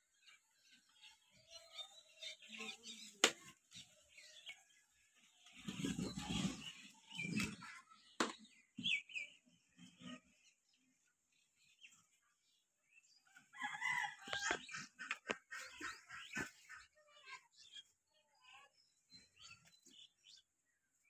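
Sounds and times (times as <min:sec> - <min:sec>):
farmyard animal clucking: 0:00.1 - 0:20.4.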